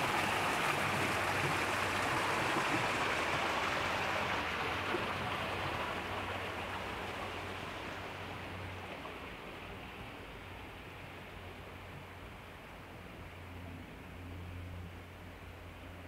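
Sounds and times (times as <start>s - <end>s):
water rushing: 0.0s - 13.5s.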